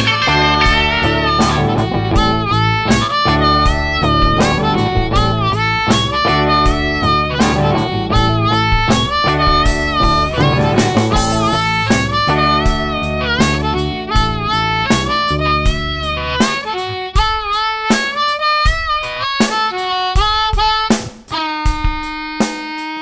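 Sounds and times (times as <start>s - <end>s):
instrumental blues guitar: 0.0s - 23.0s.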